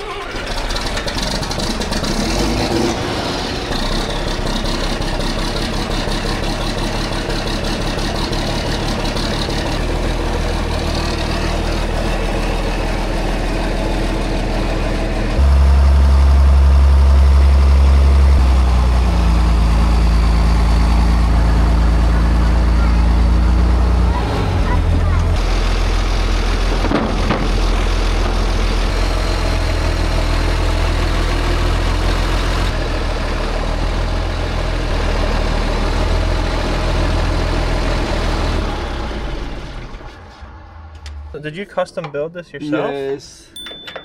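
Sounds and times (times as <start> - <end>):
tractor engine running: 0.0 - 41.4.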